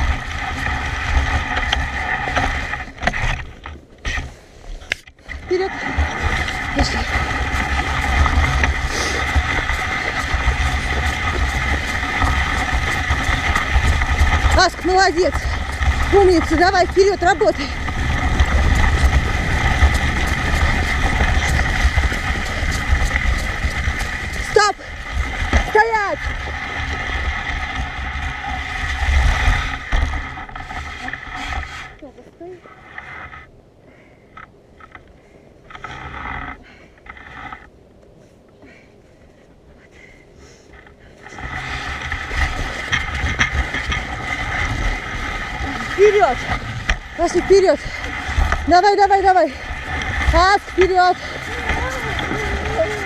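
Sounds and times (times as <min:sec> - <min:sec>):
dog-drawn rig rumbling and rattling: 0:00.0 - 0:33.6, 0:40.6 - 0:53.0
rush of movement along a trail: 0:00.0 - 0:53.0
wind buffeting the microphone: 0:05.3 - 0:32.9, 0:36.6 - 0:53.0.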